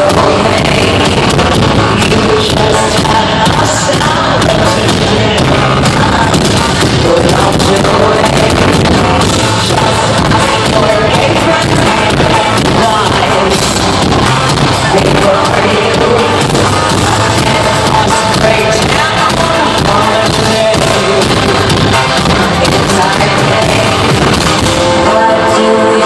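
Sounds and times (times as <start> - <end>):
live pop concert music: 0.0 - 26.0
person singing: 0.0 - 26.0.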